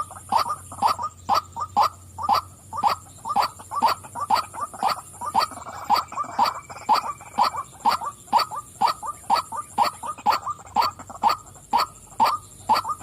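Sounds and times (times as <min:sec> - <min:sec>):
bird giving harsh wak calls: 0:00.0 - 0:13.0.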